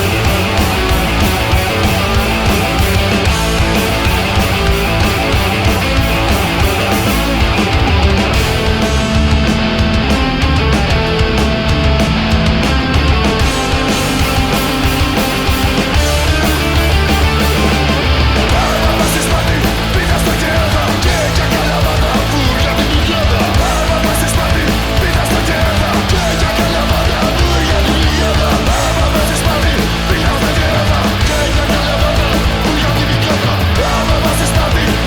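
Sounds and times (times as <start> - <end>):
punk rock band playing: 0.0 - 35.0.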